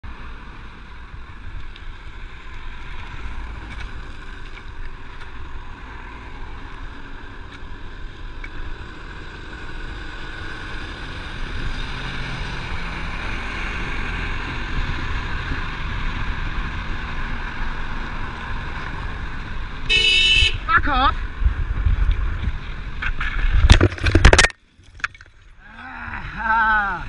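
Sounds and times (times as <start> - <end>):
low rumble of road noise: 0.0 - 27.0
wind rushing over microphone: 0.3 - 24.5.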